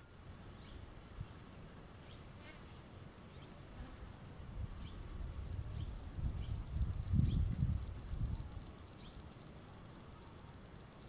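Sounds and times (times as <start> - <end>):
chorus of crickets: 0.0 - 11.0.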